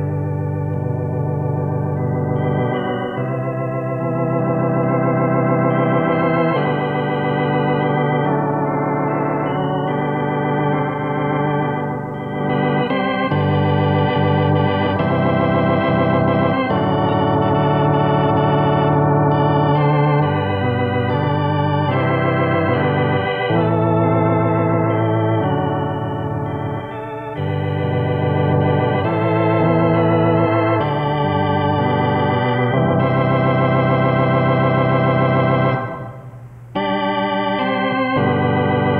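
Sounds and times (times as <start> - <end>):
organ playing sustained chords: 0.0 - 38.9.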